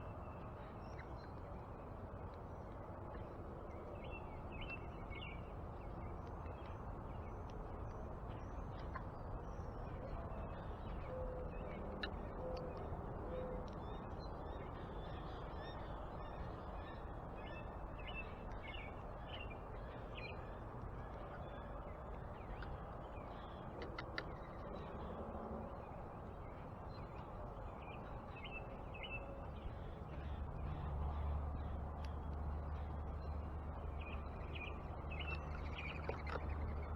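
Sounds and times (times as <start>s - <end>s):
low background rumble: 0.0s - 36.9s.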